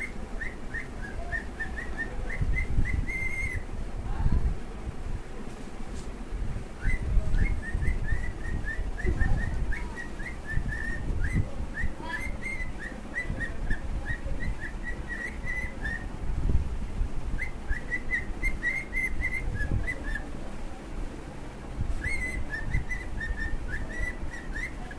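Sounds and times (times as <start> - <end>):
low rumbling background noise: 0.0 - 24.9.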